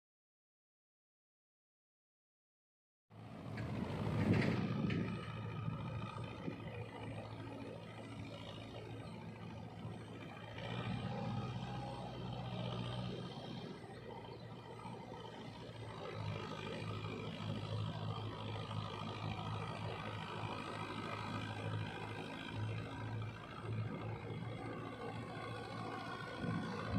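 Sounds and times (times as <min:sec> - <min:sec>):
tractor engine running: 0:03.1 - 0:26.9.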